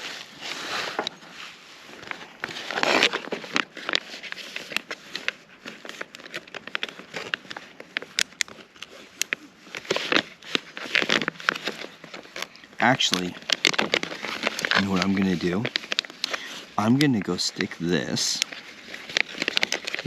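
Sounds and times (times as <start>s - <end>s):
plastic pouch crinkling: 1.9s - 20.0s.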